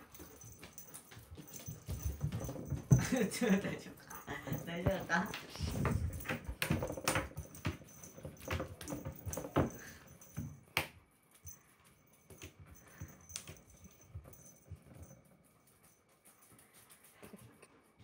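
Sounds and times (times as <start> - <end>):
kitten paws tapping on wood: 0.0 - 17.8.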